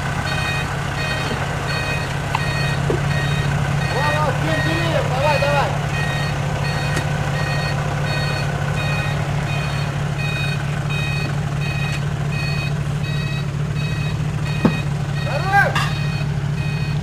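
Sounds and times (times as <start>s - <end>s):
vehicle engine running: 0.0s - 17.0s
electronic warning beeps: 0.3s - 17.0s.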